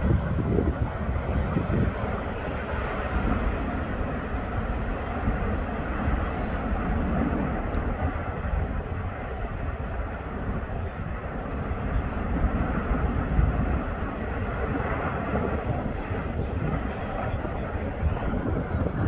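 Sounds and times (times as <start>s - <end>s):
lava fountain roaring: 0.0s - 19.0s
wind buffeting microphone: 0.0s - 19.0s.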